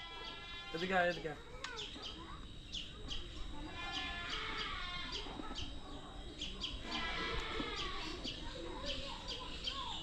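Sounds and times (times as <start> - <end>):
birds chirping: 0.0 - 10.0
faint voices: 0.0 - 10.0.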